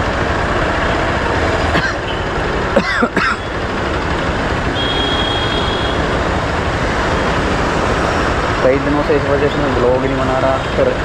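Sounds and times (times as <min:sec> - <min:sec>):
city traffic noise: 0:00.0 - 0:11.0.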